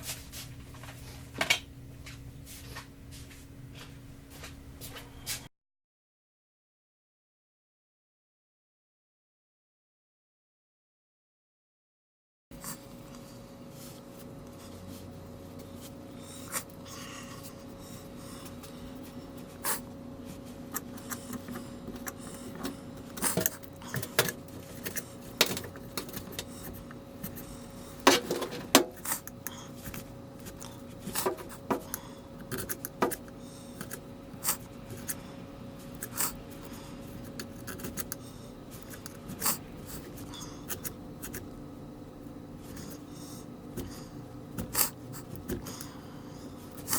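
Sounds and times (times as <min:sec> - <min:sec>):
steady low hum: 0:00.0 - 0:05.5, 0:12.5 - 0:46.9.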